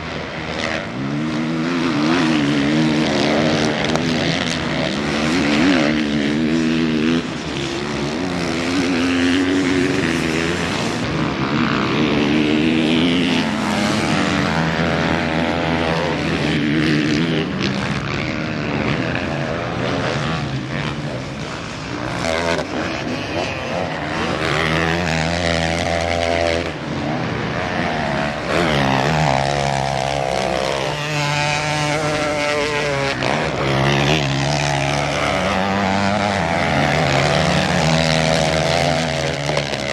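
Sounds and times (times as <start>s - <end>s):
motocross bikes engines revving: 0.0s - 39.9s.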